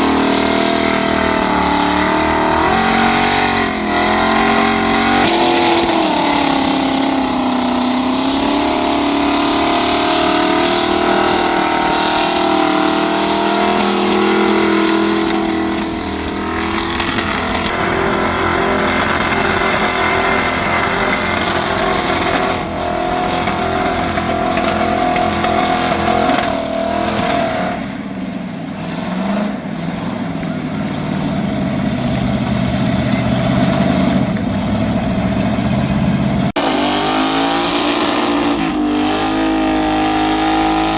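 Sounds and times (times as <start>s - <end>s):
car engine revving hard: 0.0s - 40.9s.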